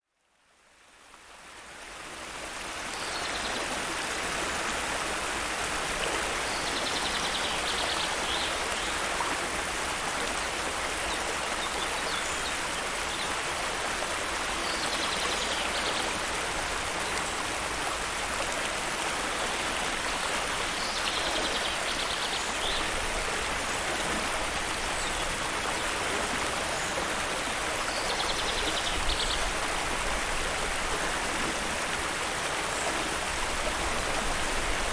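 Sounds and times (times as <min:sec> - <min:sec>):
flowing stream rushing: 0:00.7 - 0:34.9.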